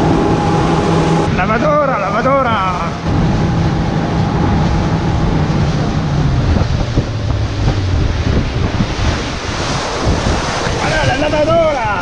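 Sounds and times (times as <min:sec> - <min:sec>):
boat engine running: 0:00.0 - 0:12.0
water splashing off hull: 0:00.0 - 0:12.0
wind buffeting microphone: 0:00.0 - 0:12.0.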